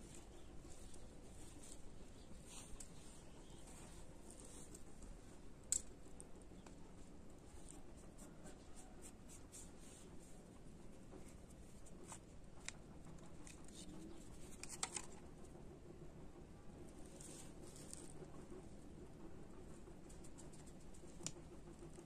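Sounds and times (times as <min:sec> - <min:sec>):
hands scratching dry soil: 0:00.0 - 0:15.4, 0:16.9 - 0:22.0.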